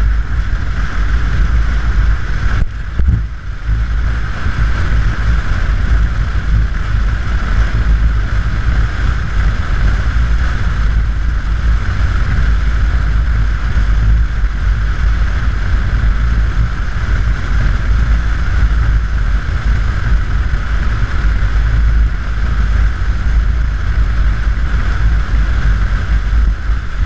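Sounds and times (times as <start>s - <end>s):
motorcycle and road rumble: 0.0s - 27.0s
wind buffeting microphone: 0.0s - 27.0s.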